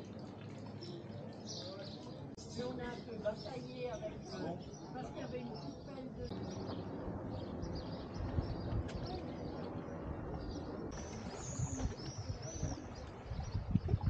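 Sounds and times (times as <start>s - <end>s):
low uneven outdoor rumble: 0.0s - 14.0s
birds chirping: 0.6s - 14.0s.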